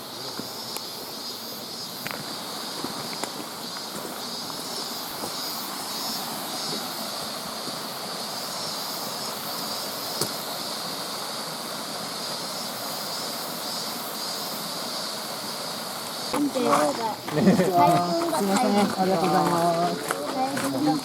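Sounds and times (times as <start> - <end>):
mountain stream running: 0.0 - 21.0
steady high hiss: 0.0 - 21.0.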